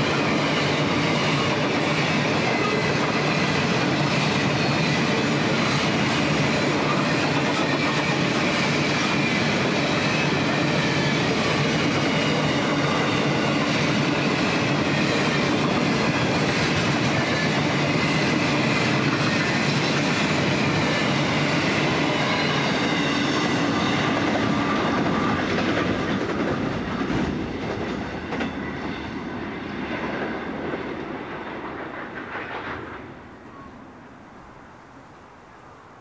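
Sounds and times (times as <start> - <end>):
wagons clickety-clack on rails: 0.0 - 33.0
faint wind: 0.0 - 36.0.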